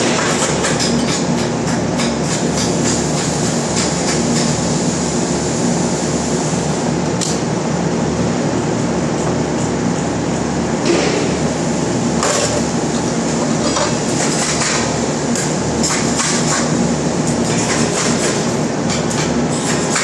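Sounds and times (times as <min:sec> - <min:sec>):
factory machinery hum: 0:00.0 - 0:20.0.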